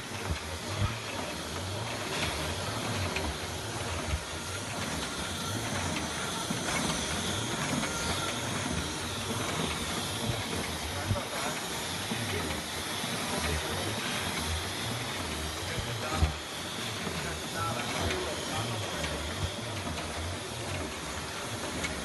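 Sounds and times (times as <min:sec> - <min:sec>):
machine hissing and humming: 0:00.0 - 0:22.0.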